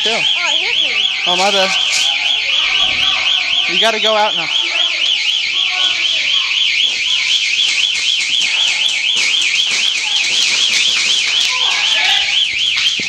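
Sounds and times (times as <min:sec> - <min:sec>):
electronic alarm siren warbling: 0:00.0 - 0:13.0.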